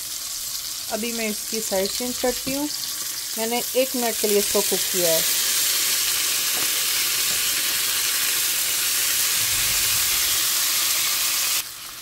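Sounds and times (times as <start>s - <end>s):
steaks sizzling in a frying pan: 0.0s - 12.0s.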